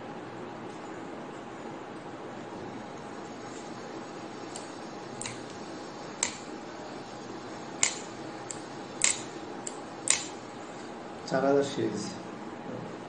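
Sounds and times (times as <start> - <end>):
background hiss: 1.4 - 13.0.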